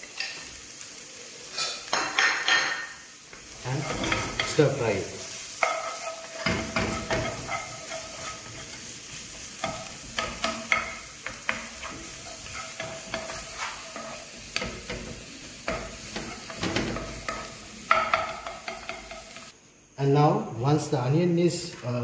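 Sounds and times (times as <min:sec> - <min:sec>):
onion and garlic sizzling in oil: 0:00.0 - 0:20.9
spatula scraping and knocking pan: 0:01.9 - 0:19.5.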